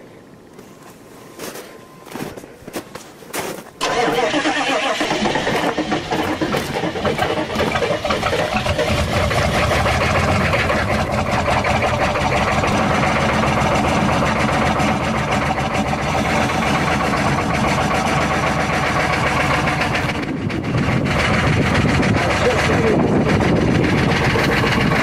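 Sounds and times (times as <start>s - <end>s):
diesel engine idling clatter: 3.8s - 25.0s.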